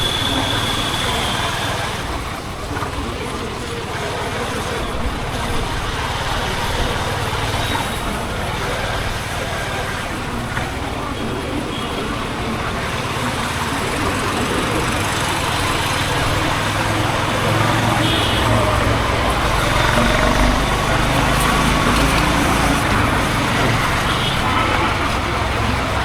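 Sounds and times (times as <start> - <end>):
motorcycle engine running: 0.0 - 26.0
road and traffic noise: 0.0 - 26.0.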